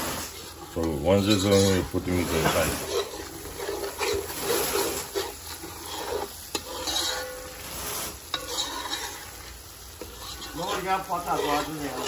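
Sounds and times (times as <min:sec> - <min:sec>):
paste sizzling in hot oil: 0:00.0 - 0:12.0
spoon scraping pot: 0:00.0 - 0:12.0.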